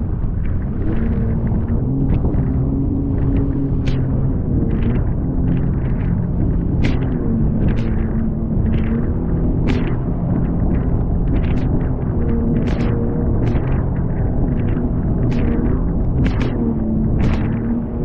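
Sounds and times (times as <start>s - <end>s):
hull slapping waves: 0.0s - 18.0s
jet ski engine drone: 0.0s - 18.0s.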